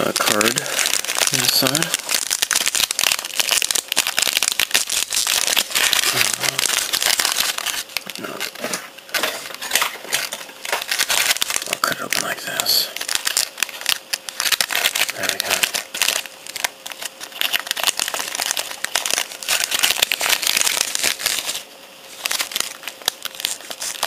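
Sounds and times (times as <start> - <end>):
plastic wrapper crinkling: 0.0 - 24.0.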